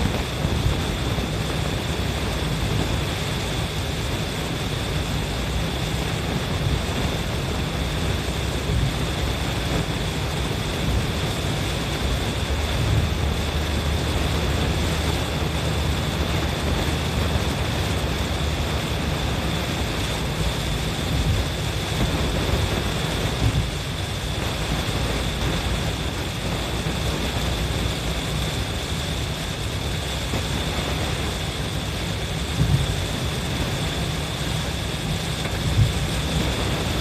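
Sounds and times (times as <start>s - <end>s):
low car cabin rumble: 0.0s - 37.0s
rain beating on windshield: 0.0s - 37.0s
tyres hissing on wet road: 0.0s - 37.0s.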